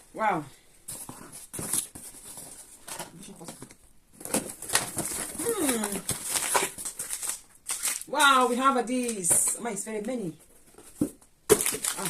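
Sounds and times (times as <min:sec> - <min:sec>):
packaging rustling and crinkling: 0:00.8 - 0:09.4, 0:10.4 - 0:12.0.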